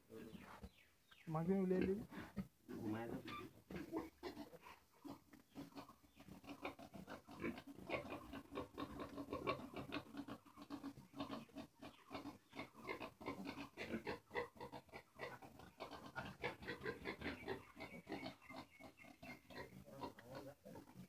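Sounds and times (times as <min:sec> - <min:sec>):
piglets grunting: 0:01.8 - 0:21.0.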